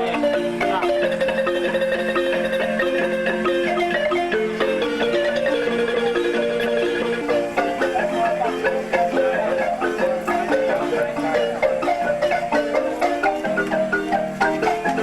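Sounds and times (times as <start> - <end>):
marimba music: 0.0 - 15.0.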